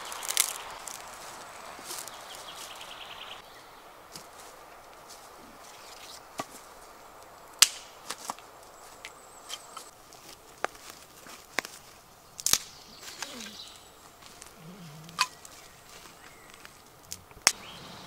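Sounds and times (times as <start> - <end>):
dry twigs snapping: 0.0 - 2.8, 4.1 - 17.6.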